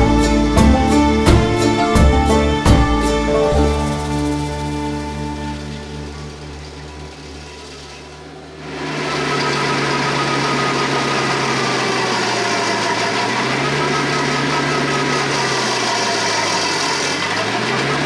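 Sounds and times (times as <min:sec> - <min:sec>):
stump grinder: 0:00.0 - 0:18.0
tractor engine drone with whine: 0:00.0 - 0:18.0.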